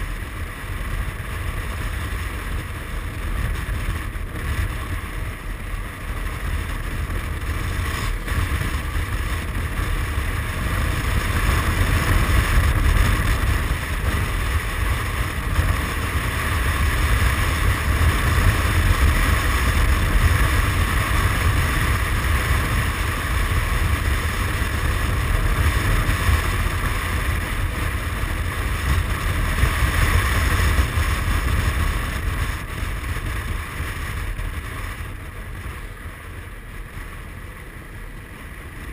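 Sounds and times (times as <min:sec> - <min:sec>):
scooter engine running: 0:00.0 - 0:38.9
wind buffeting microphone: 0:00.0 - 0:38.9.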